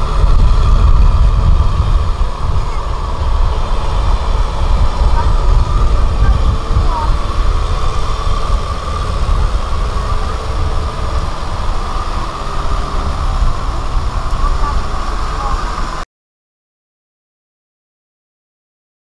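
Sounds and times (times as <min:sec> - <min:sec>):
tractor diesel engine rumbling: 0:00.0 - 0:16.0.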